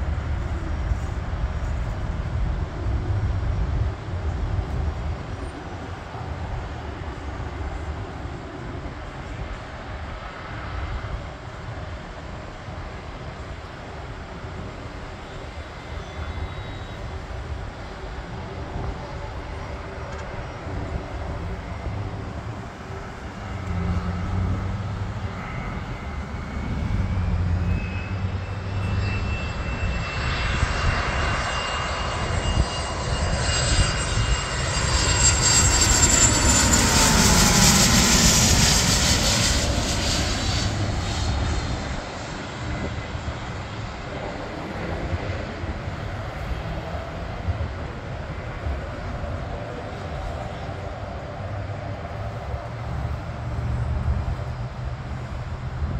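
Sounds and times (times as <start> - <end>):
jet engines passing overhead: 0.0 - 55.9.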